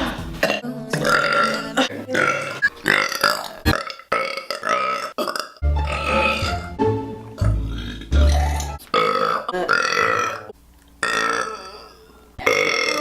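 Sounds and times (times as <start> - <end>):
woman burping: 0.5 - 6.6, 7.7 - 13.0.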